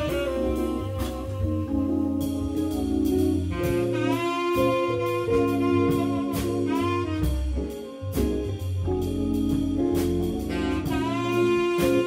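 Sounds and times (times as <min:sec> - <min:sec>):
drums: 0:00.0 - 0:12.0
electric guitar: 0:00.0 - 0:12.0
organ: 0:00.0 - 0:12.0
tenor saxophone: 0:00.0 - 0:12.0.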